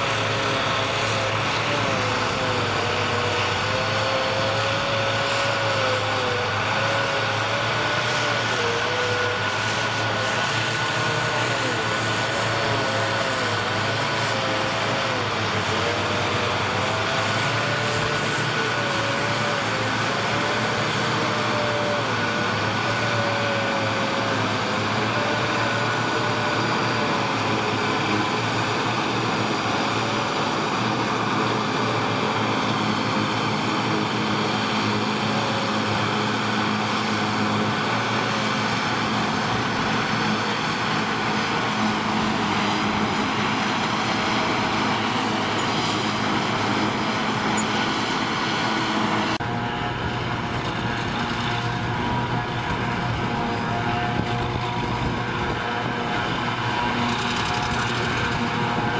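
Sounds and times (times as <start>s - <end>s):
forage harvester chopping grass: 0.0s - 58.9s
tractor engine drone: 0.0s - 58.9s.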